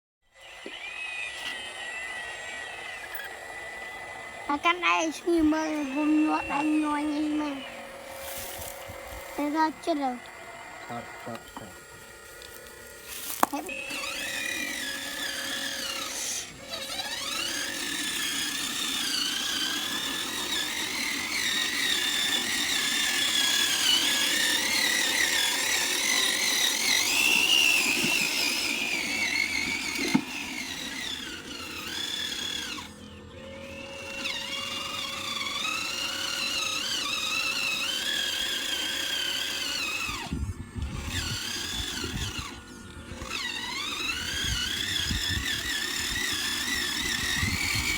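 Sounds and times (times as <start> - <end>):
small electric motor whining: 0.2 - 47.9.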